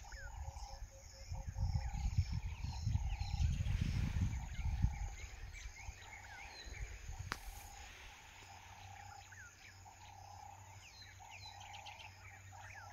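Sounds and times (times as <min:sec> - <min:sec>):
insect drone: 0:00.0 - 0:12.9
small birds whistling: 0:00.0 - 0:12.9.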